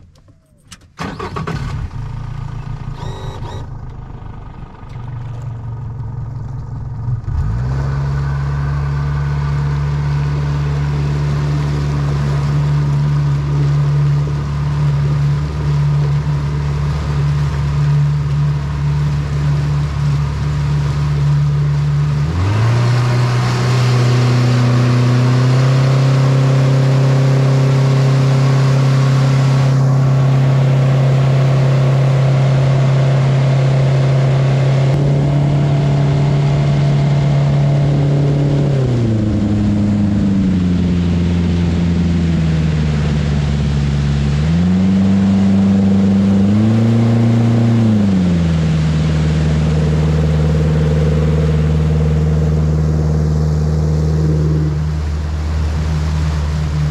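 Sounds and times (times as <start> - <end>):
outboard boat motor running: 0.0 - 56.9.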